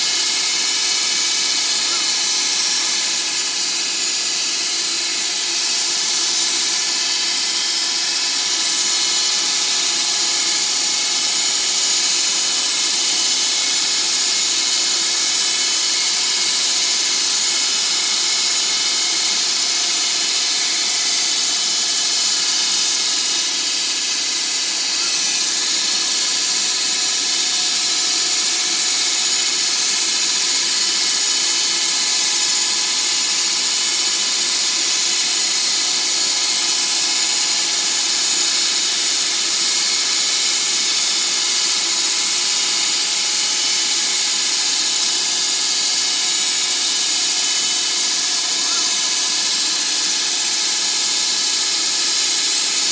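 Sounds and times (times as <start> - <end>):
lathe motor whine: 0.0 - 52.9
metal lathe cutting hiss: 0.0 - 52.9.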